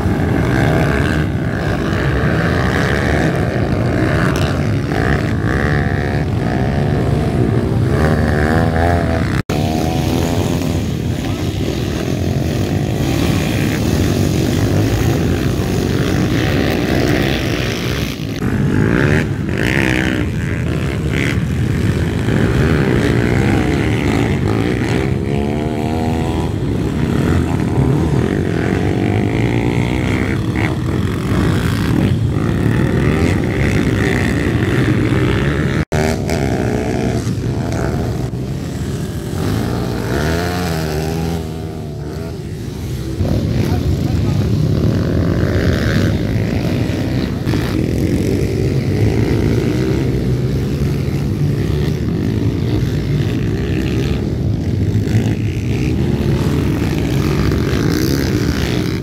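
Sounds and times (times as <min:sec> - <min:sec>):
motorbike engines revving: 0:00.0 - 0:59.0.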